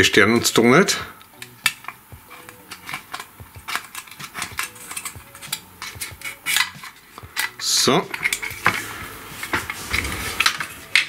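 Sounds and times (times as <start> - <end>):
hands handling plastic parts: 1.2 - 11.0.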